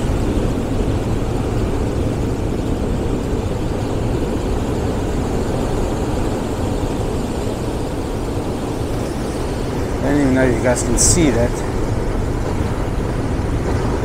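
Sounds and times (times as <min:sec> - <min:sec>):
waves breaking on rocks: 0:00.0 - 0:14.0.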